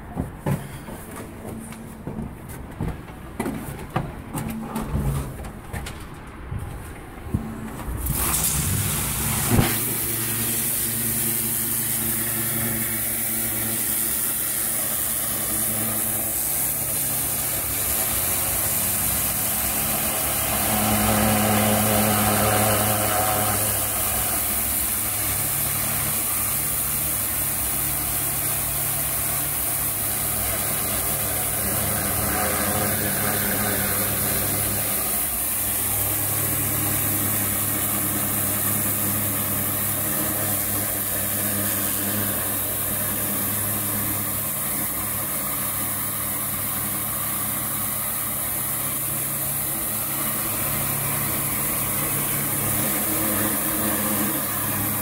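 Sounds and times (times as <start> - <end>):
machine engine drone: 4.4 - 55.0
water jet hissing: 8.0 - 55.0.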